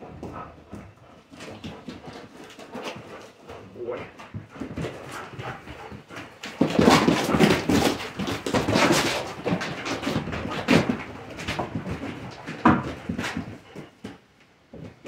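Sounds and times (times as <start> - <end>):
dog scuffling on concrete: 0.0 - 15.0.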